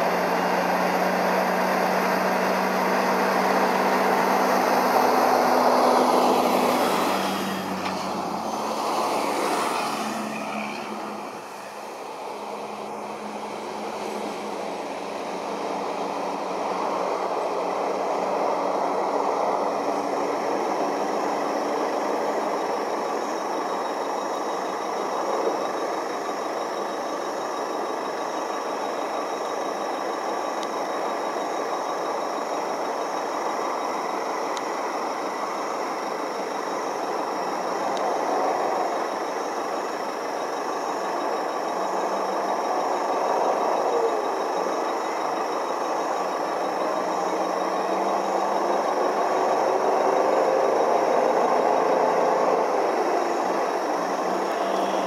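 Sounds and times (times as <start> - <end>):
truck engines idling: 0.0 - 55.0.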